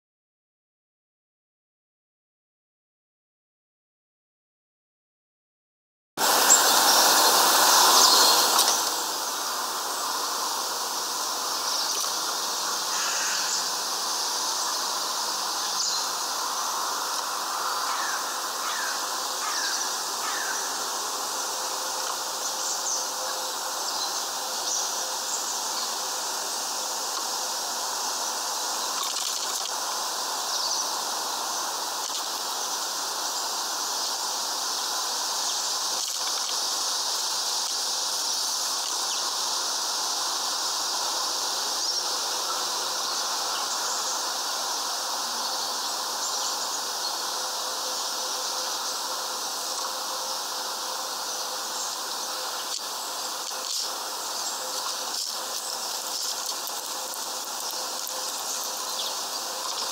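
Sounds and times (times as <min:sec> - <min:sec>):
outdoor background hiss: 0:06.2 - 0:59.9.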